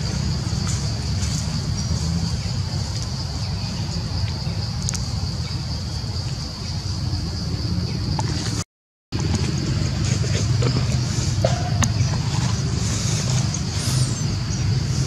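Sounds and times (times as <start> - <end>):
insects droning: 0.0 - 8.6, 9.2 - 15.0.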